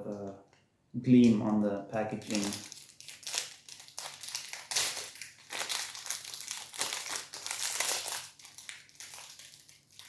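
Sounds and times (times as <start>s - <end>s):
plastic wrapper crinkling: 1.2s - 10.0s.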